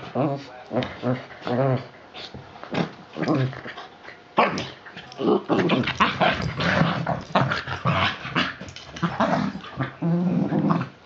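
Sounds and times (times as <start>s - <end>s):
dogs growling: 0.0s - 11.0s.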